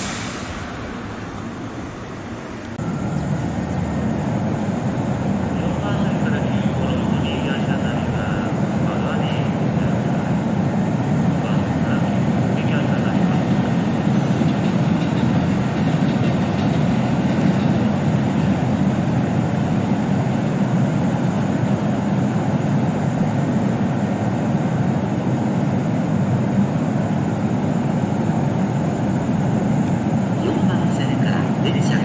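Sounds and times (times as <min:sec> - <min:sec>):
train rumble and hum: 0:00.0 - 0:32.0.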